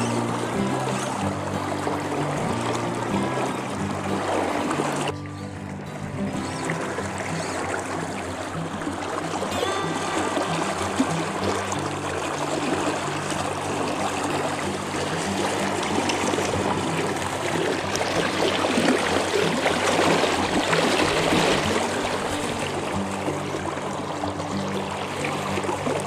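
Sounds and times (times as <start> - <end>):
river current rushing: 0.0 - 26.0.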